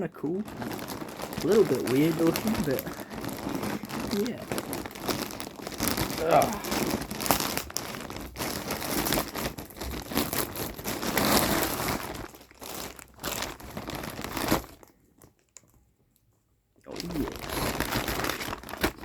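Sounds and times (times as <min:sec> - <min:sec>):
packaging crinkling: 0:00.2 - 0:15.8, 0:16.9 - 0:19.0.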